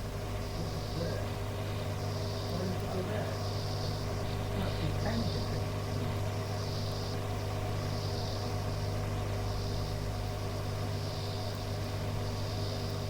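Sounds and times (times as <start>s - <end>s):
low radio drone: 0.0s - 13.0s
radio static hiss: 0.0s - 13.0s.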